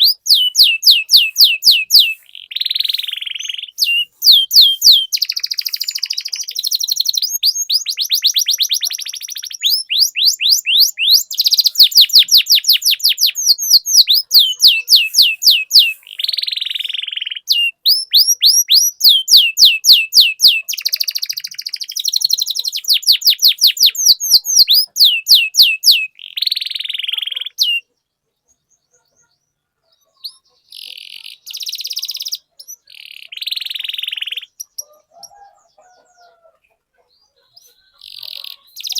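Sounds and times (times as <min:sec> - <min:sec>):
canary singing rolling trills: 0:00.0 - 0:38.9.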